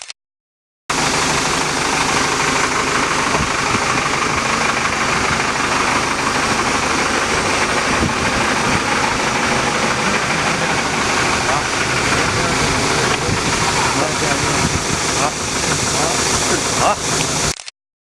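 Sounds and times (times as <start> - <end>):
pile-driving rig engine humming: 0.9 - 17.6.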